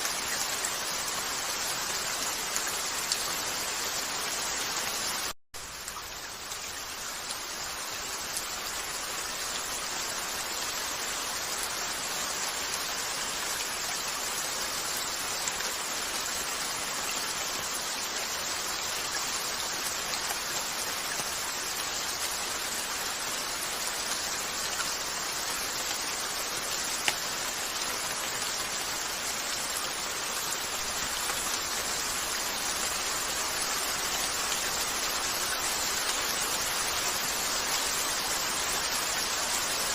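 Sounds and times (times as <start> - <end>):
rain falling on a window: 0.0 - 39.9.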